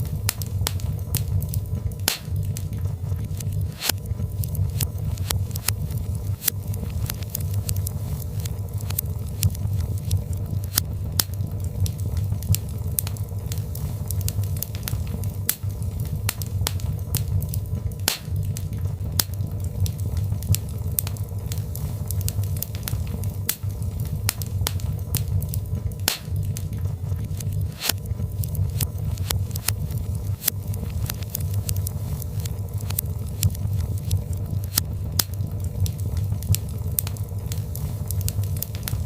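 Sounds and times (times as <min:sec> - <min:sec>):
logs crackling and popping: 0:00.0 - 0:39.0
low rumble of flames: 0:00.0 - 0:39.0.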